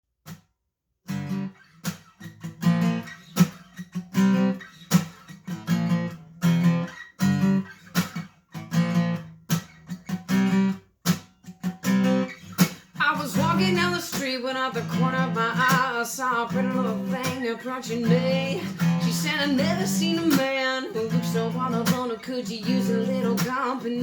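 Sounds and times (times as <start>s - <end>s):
acoustic guitar strumming: 1.1s - 24.0s.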